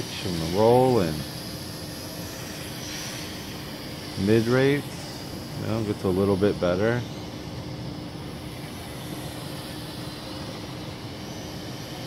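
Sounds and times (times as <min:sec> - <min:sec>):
steady hiss: 0:00.0 - 0:12.0
toy drone propellers humming: 0:00.0 - 0:12.0.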